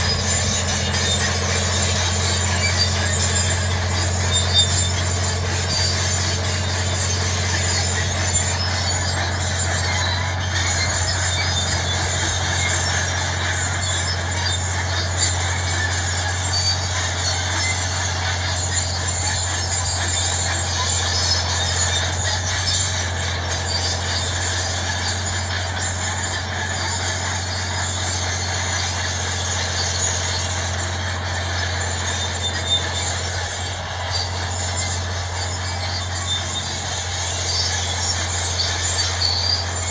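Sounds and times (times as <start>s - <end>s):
diesel engine running under load: 0.0s - 39.9s
steel tracks squealing: 0.0s - 39.9s.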